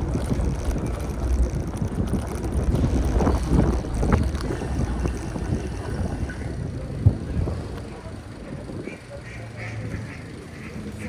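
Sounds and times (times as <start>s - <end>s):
wind rumbling on microphone: 0.0s - 10.2s
street sounds: 0.0s - 11.0s.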